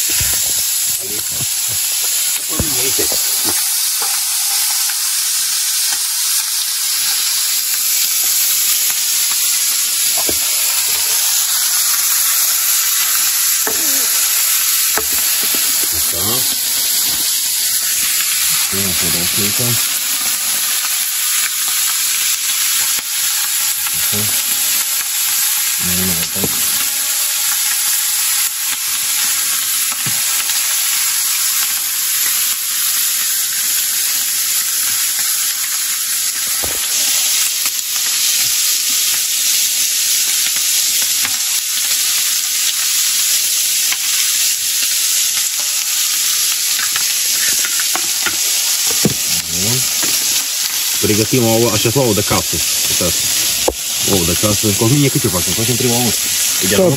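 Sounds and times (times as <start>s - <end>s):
meat frying in oil: 0.0s - 56.9s.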